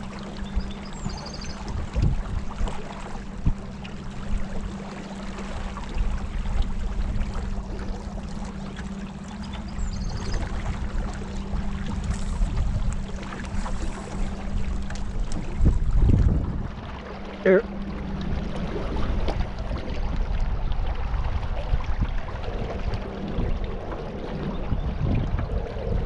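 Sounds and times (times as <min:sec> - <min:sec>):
steady low hum: 0:00.0 - 0:26.0
water lapping around kayak: 0:00.0 - 0:26.0.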